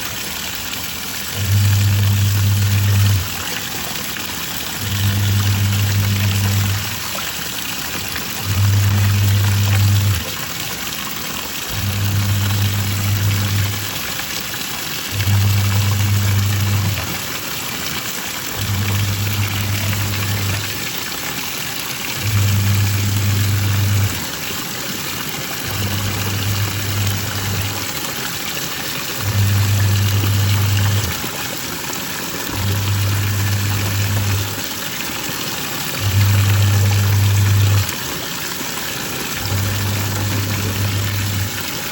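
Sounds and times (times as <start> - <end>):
washing machine motor humming: 0.0 - 41.9
water churning in tub: 0.0 - 41.9.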